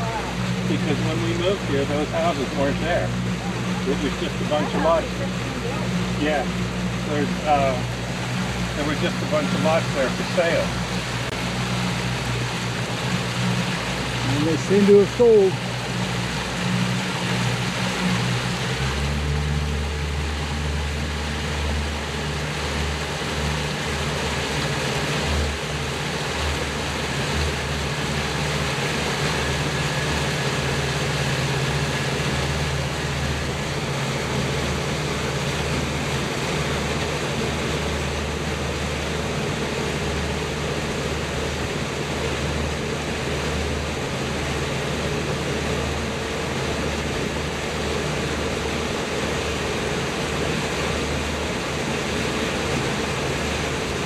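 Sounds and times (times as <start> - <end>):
boat motor humming: 0.0 - 54.0
wind and water rushing: 0.0 - 54.0.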